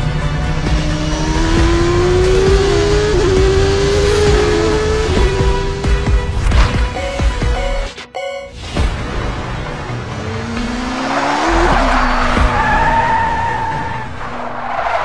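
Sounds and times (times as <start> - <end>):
race car engine revving: 0.0 - 6.3, 8.9 - 15.0.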